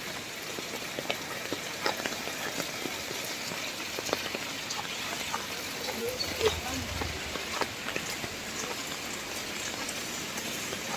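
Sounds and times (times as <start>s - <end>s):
rain falling: 0.0s - 10.9s.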